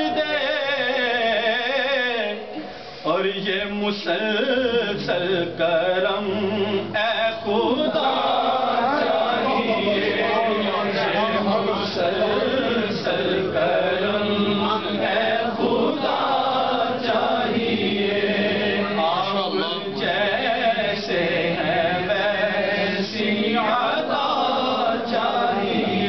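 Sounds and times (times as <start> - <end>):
low hum of voices: 0.0 - 26.0
man chanting unaccompanied: 0.0 - 26.0.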